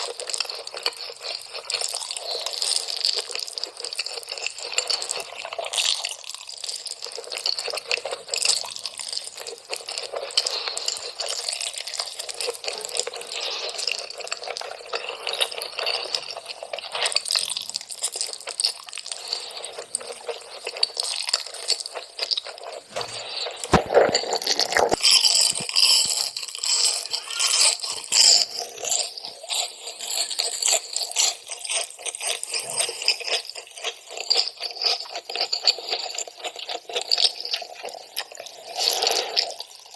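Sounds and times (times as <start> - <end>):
small clicks and crackles: 0.0 - 39.9
wet squishing and crunching food: 0.0 - 39.9.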